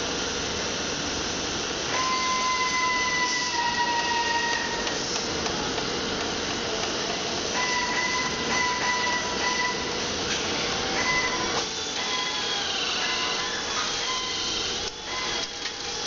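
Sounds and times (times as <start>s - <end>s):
machine whine: 0.0s - 16.0s
machinery noise with hiss: 0.0s - 16.0s.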